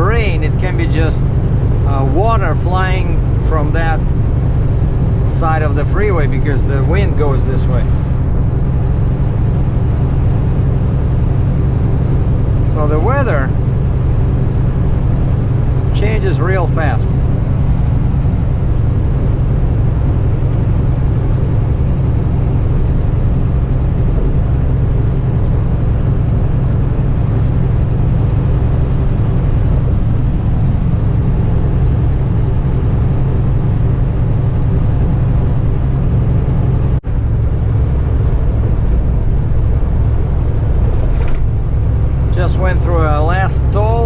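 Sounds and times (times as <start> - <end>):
diesel truck engine hum: 0.0 - 44.0.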